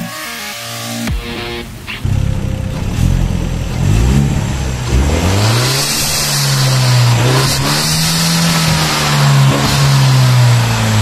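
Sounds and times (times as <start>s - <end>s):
car engine revving: 1.0s - 11.0s.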